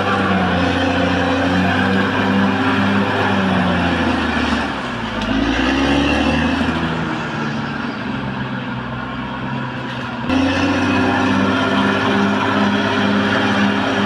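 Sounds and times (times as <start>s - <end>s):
bulldozer diesel engine under load: 0.0s - 14.0s.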